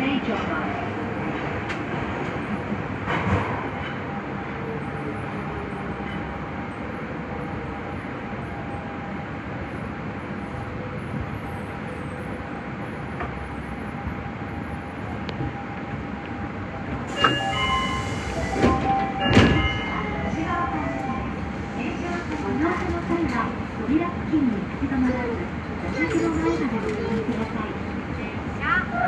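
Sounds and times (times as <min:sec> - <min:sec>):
subway train wheels rumbling: 0:00.0 - 0:29.0
faint train whine: 0:03.7 - 0:29.0.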